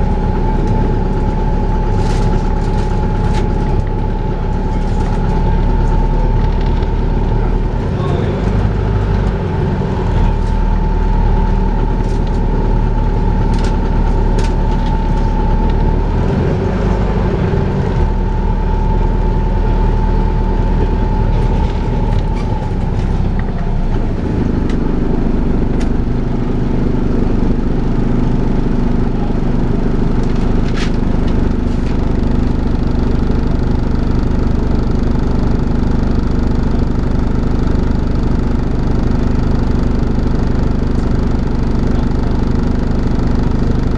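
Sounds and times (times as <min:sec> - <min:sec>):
bus engine drone: 0:00.0 - 0:43.9
bus high whine: 0:00.0 - 0:43.9.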